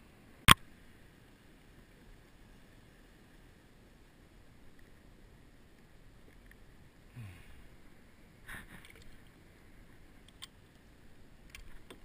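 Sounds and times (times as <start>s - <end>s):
water lapping around kayak: 1.2s - 12.0s.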